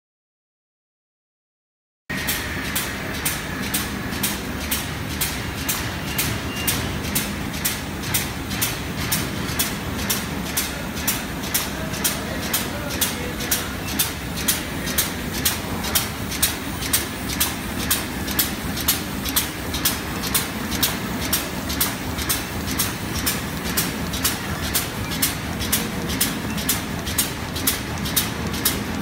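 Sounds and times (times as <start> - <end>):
machine clicking: 2.1 - 29.0
steady mechanical hum: 2.1 - 29.0.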